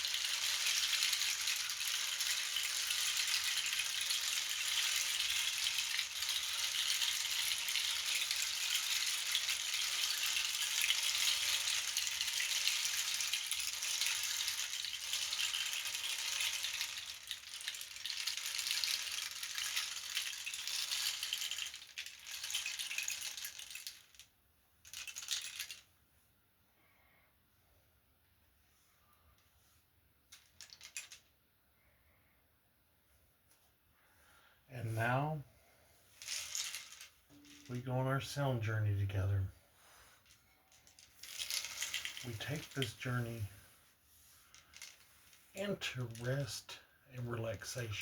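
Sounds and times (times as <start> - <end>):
percussion rattle shaking: 0.0 - 25.9, 30.3 - 31.3, 36.1 - 48.0.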